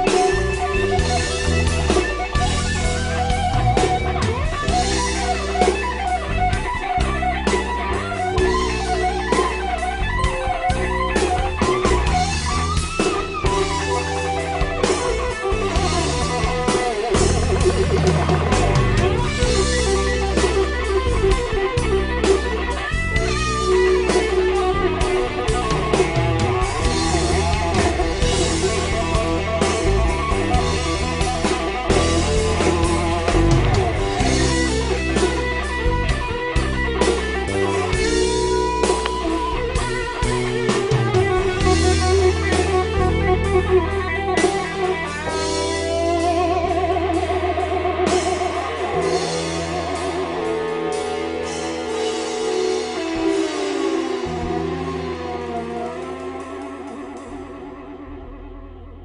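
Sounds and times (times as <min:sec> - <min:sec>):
electric guitar solo: 0:00.0 - 0:59.0
rock backing track: 0:00.0 - 0:59.0.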